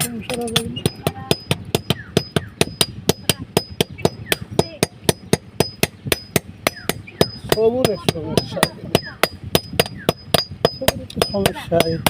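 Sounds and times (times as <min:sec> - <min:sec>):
hammer striking metal on anvil: 0:00.0 - 0:12.0.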